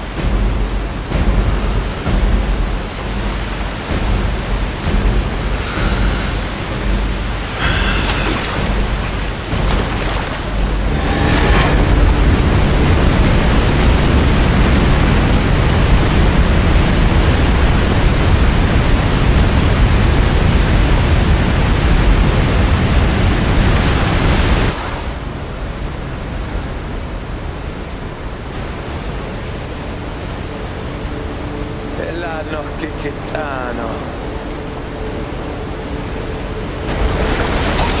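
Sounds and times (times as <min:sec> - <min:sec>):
waterfall rushing water: 0:00.0 - 0:38.0.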